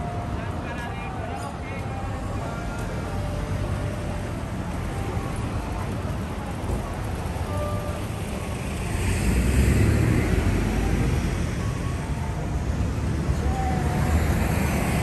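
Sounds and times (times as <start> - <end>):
passing cars rumbling: 0.0 - 15.0.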